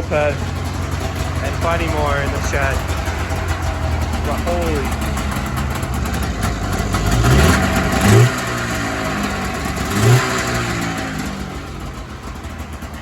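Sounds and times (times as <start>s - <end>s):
engine revving and idling: 0.0s - 13.0s.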